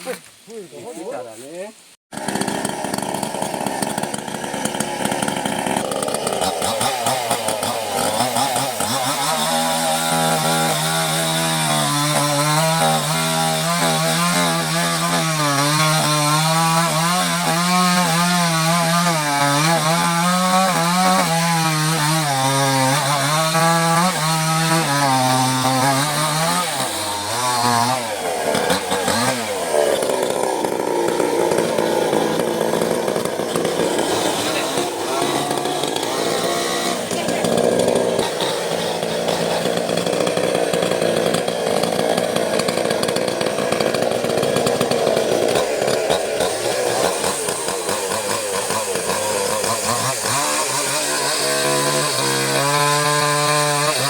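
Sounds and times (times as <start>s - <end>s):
small chainsaw cutting wood: 2.1s - 54.0s.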